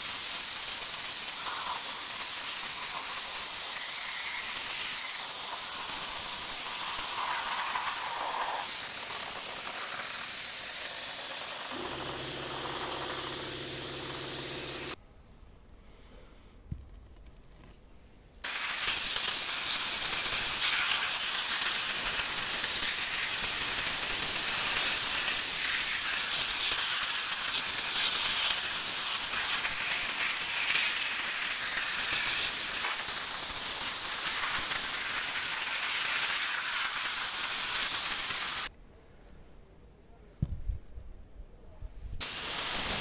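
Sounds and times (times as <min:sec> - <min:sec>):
compressed air tool hissing: 0:00.0 - 0:15.0, 0:18.4 - 0:38.7, 0:42.2 - 0:43.0.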